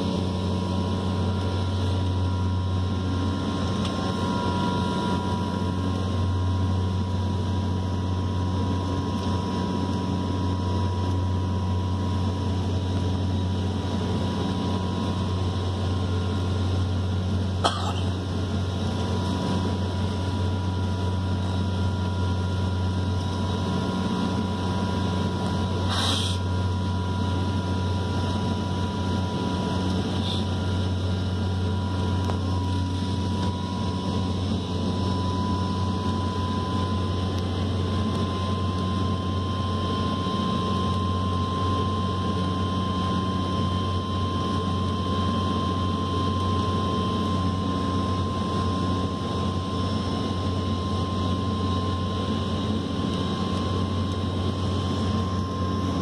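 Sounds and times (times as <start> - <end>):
turboprop cabin drone: 0.0 - 56.0.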